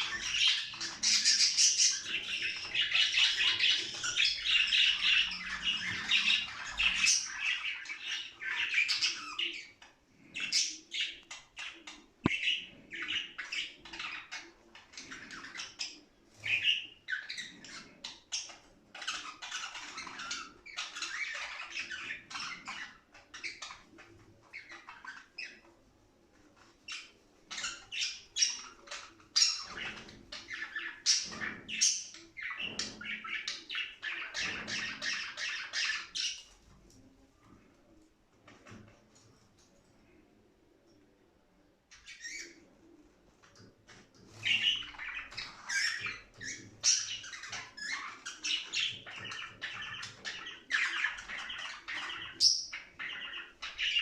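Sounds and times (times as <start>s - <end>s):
budgerigars chattering and chirping: 0.0s - 25.7s, 26.9s - 36.6s, 41.9s - 42.6s, 44.3s - 54.0s.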